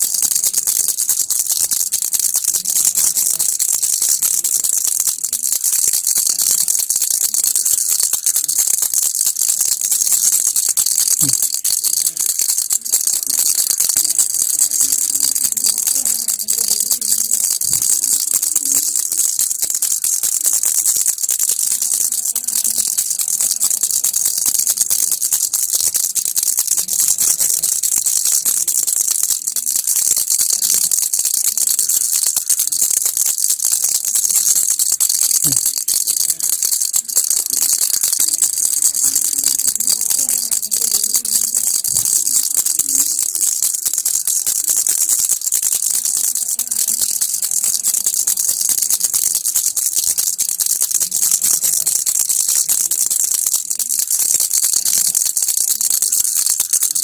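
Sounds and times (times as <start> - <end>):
baby rattle shaken: 0.0 - 57.0.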